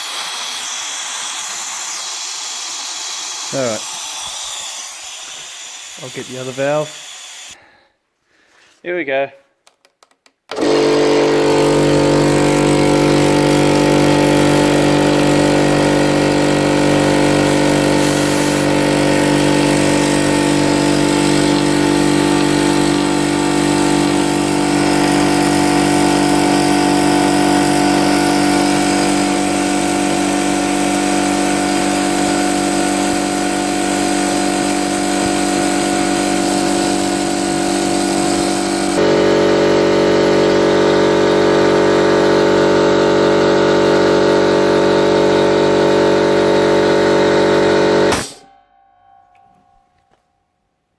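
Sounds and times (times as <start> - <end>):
air compressor running: 0.0 - 7.6, 10.5 - 48.4.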